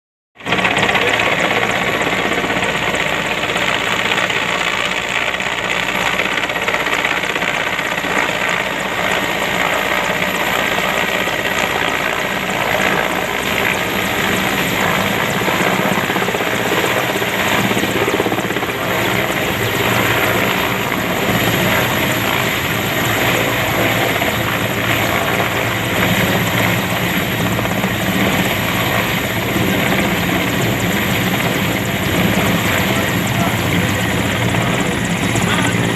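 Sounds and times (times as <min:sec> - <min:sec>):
helicopter rotor and turbine engine: 0:00.4 - 0:35.9.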